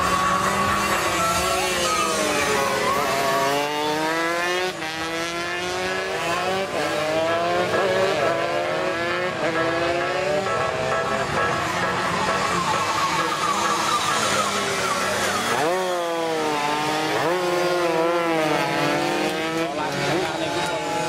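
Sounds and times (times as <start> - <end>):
motorcycles accelerating hard: 0.0 - 21.0.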